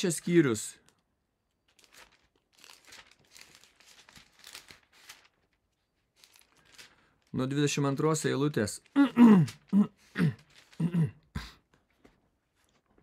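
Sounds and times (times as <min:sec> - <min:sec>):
thin pages rustling: 0:00.2 - 0:10.9, 0:11.8 - 0:13.0.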